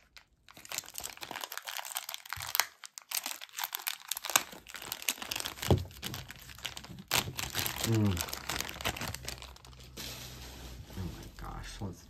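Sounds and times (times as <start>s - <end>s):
packing material crinkling: 0.0s - 11.8s.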